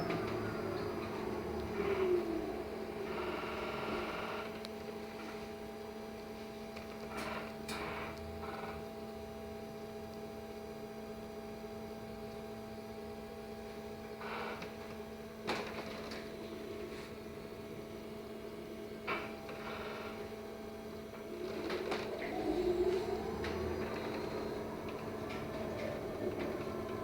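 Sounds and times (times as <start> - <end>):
electric bus interior hum: 0.0 - 27.0.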